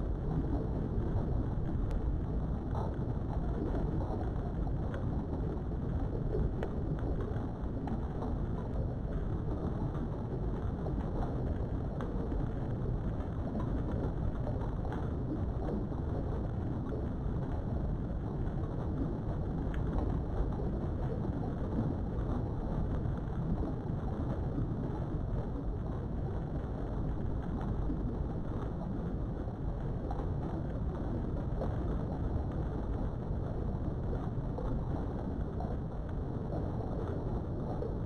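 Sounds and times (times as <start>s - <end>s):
low rumbling background noise: 0.0s - 38.0s.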